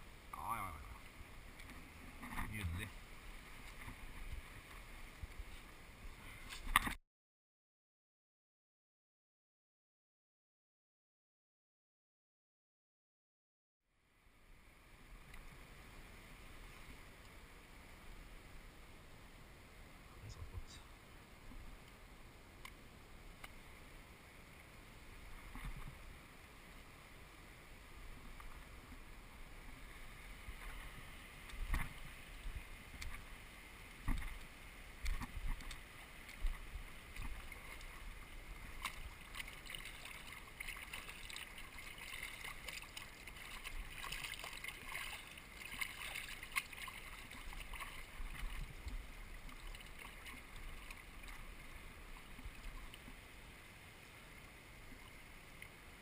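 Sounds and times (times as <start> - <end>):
river rippling over stones: 0.0 - 6.8, 14.3 - 56.0.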